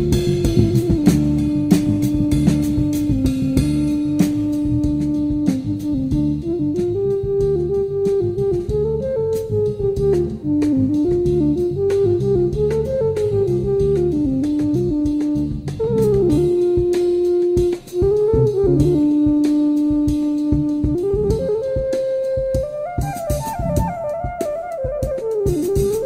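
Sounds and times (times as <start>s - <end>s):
bass: 0.0s - 26.0s
drums: 0.0s - 26.0s
jazz lead melody: 0.0s - 26.0s.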